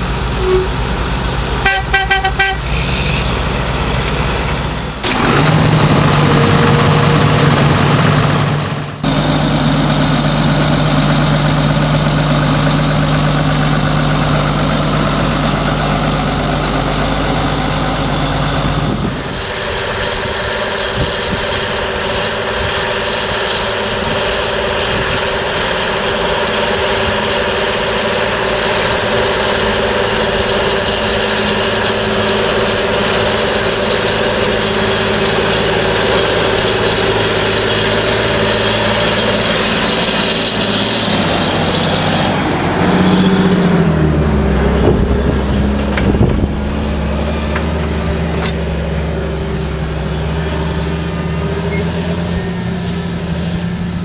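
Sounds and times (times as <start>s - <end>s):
tractor diesel engine idling: 0.0s - 54.0s
tractor engine running under load: 0.0s - 54.0s.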